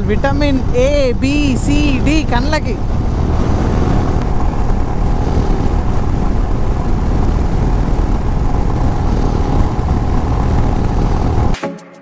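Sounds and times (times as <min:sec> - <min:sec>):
motorcycle engine at road speed: 0:00.0 - 0:11.6
wind rushing: 0:00.0 - 0:11.6.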